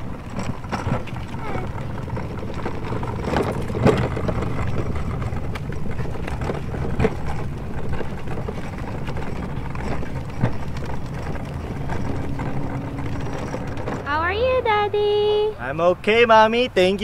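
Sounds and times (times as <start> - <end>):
sharp knocks and rattles: 0.0 - 14.2
plastic wheels rolling on concrete: 0.0 - 17.0.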